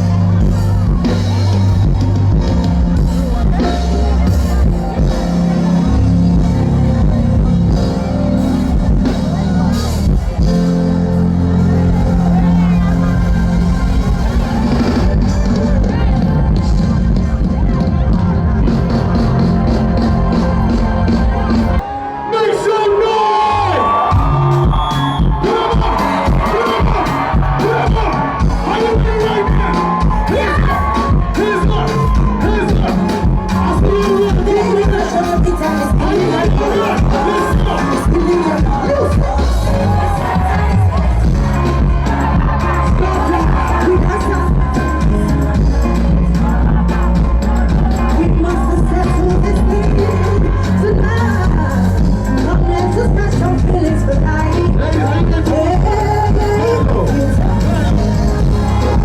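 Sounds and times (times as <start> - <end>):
guitar: 0.0 - 22.3, 23.4 - 59.0
heavy bass: 0.0 - 22.3, 23.5 - 59.0
crowd noise: 0.0 - 59.0
loud live band music: 0.0 - 59.0.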